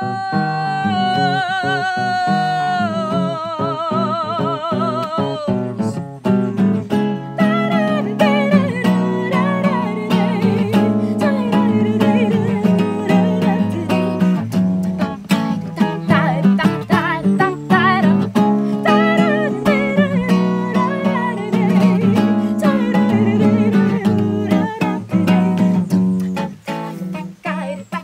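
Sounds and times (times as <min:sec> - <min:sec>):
classical acoustic guitar: 0:00.0 - 0:28.0
woman singing with vibrato: 0:00.0 - 0:28.0.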